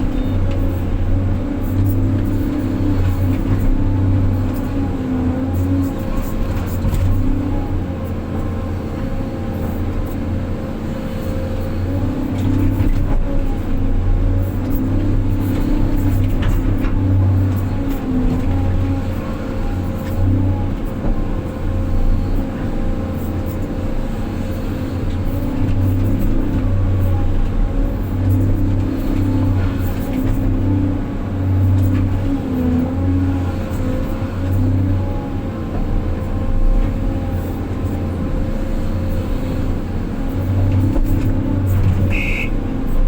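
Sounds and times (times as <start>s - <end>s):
large diesel engine running: 0.0s - 43.0s.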